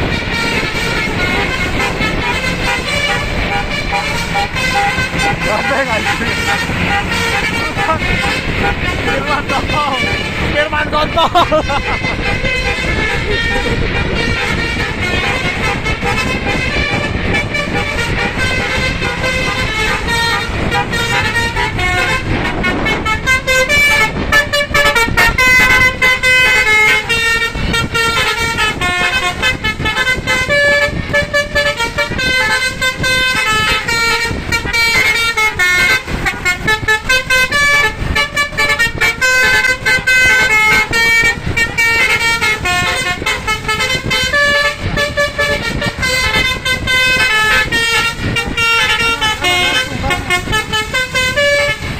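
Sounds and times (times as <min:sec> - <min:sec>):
musical bus horns playing melody: 0:00.0 - 0:51.9
road and engine noise: 0:00.0 - 0:51.9.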